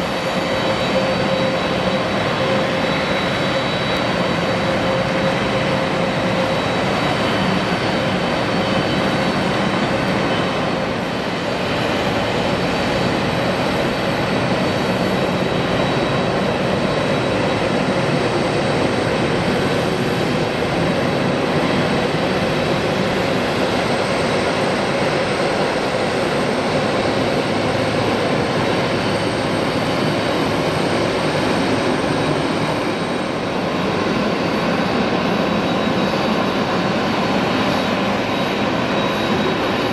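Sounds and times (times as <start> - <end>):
jet engine rushing: 0.0 - 39.9.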